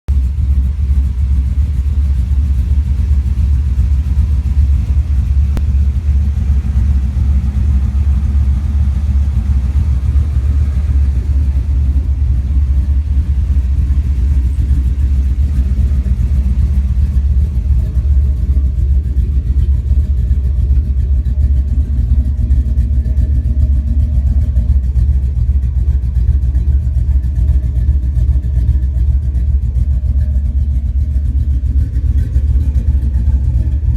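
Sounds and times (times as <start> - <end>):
car engine idling loudly: 0.1 - 33.9.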